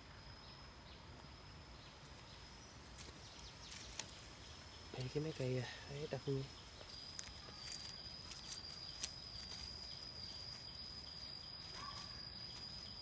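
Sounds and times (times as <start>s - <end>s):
high-pitched insect whine: 0.0s - 13.0s.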